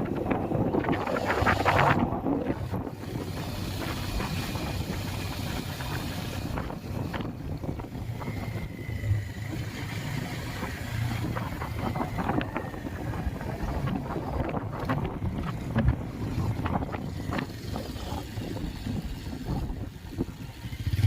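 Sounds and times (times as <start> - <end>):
motorcycle engine drone: 0.0 - 21.0
wind buffeting microphone: 0.0 - 21.0.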